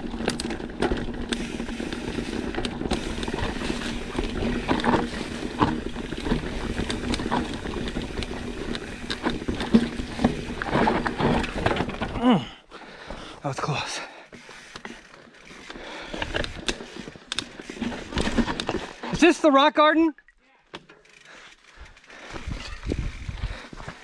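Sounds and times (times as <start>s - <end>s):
bike rattling and clattering: 0.0s - 13.3s, 14.3s - 19.9s, 20.7s - 24.0s.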